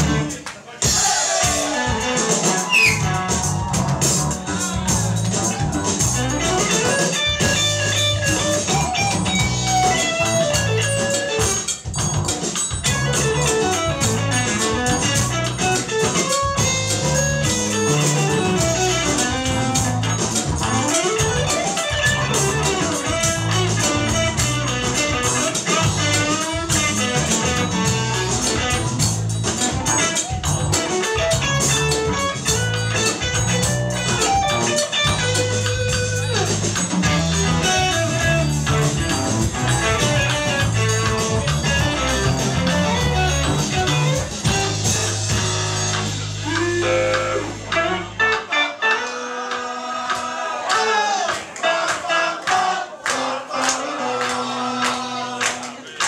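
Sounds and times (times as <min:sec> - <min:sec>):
hand percussion: 0:00.0 - 0:48.0
drum kit: 0:00.0 - 0:48.8
live band playing: 0:00.0 - 0:50.0.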